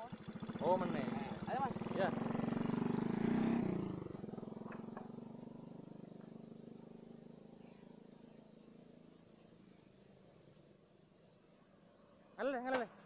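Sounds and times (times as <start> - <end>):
small motorcycle engine: 0.0 - 10.8
high insect drone: 0.0 - 13.0.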